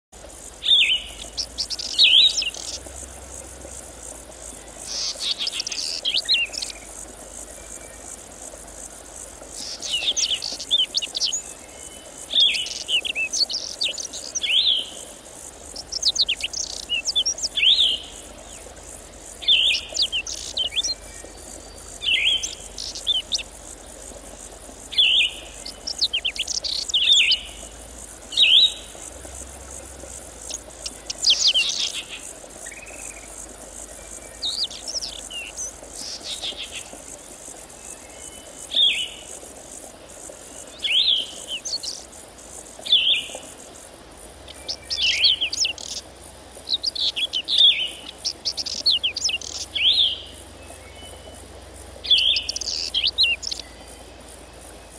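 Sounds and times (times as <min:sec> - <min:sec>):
insects chirping: 0:00.1 - 0:54.9
songbird singing: 0:00.2 - 0:54.9.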